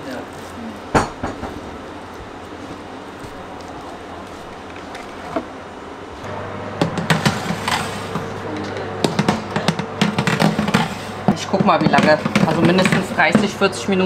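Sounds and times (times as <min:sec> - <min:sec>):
oven humming: 0:00.0 - 0:14.0.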